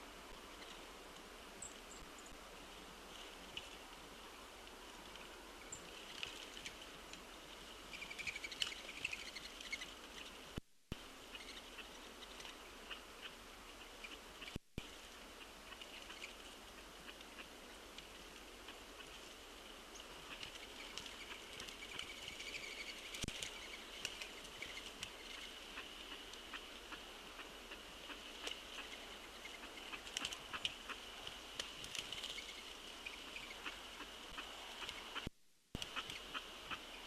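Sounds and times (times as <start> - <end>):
birds pecking and shuffling: 0.0 - 37.0.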